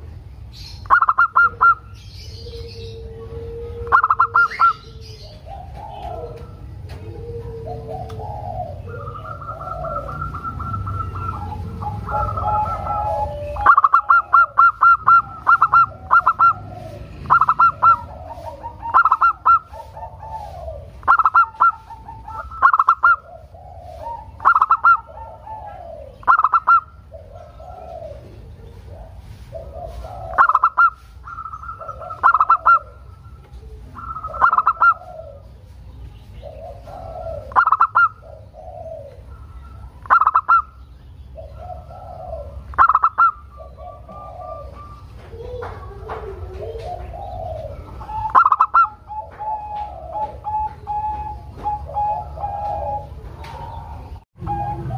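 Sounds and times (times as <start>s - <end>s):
dove cooing: 0.0s - 54.9s.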